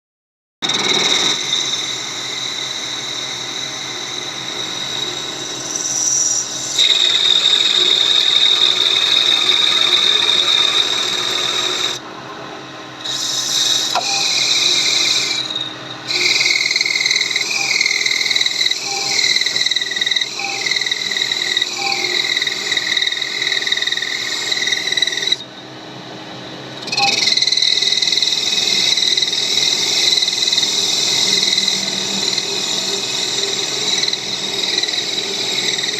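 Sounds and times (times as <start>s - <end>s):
lathe cutting metal whine: 0.6s - 35.9s.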